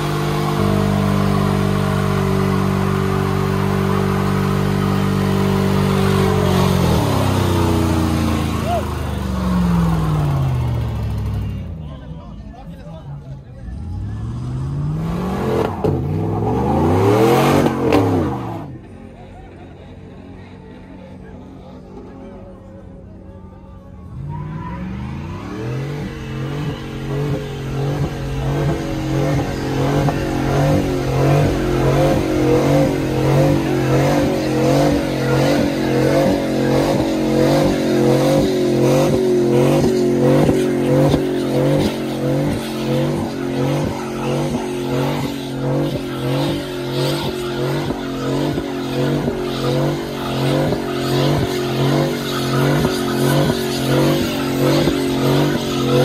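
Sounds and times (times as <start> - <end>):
truck engine revving: 0.0 - 11.8, 13.2 - 22.8, 23.8 - 56.0.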